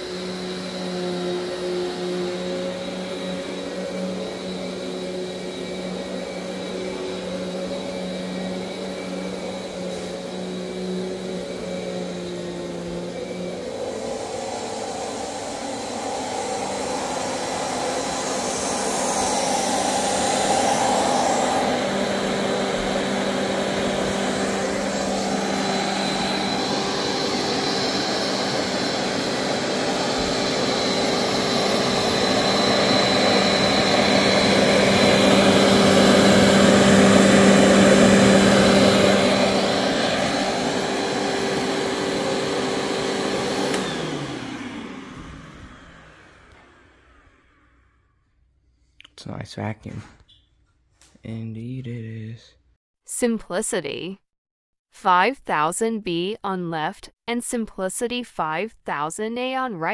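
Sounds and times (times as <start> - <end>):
vacuum cleaner running: 0.0 - 48.2
vacuum motor winding down: 0.0 - 48.2.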